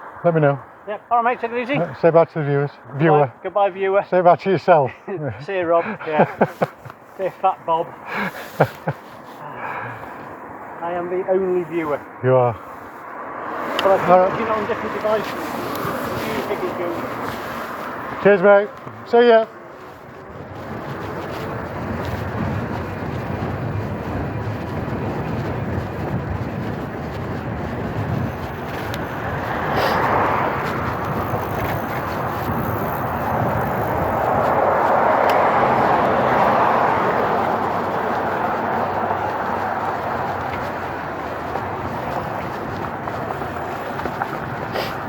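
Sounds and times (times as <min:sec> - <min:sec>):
road traffic rushing: 0:00.0 - 0:45.0
vehicles passing: 0:00.0 - 0:45.0.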